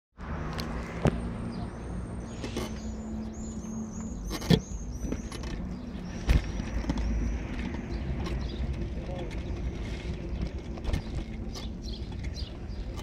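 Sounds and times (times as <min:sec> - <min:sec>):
small birds chirping: 0:00.4 - 0:13.0.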